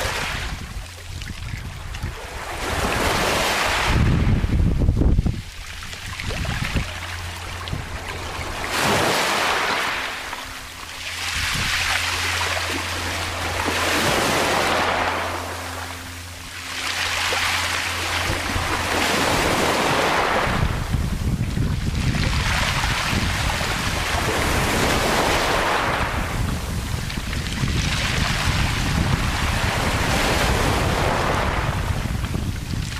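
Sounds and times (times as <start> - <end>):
steady low hum: 0.0 - 32.9
waves washing over pebbles: 0.0 - 32.9.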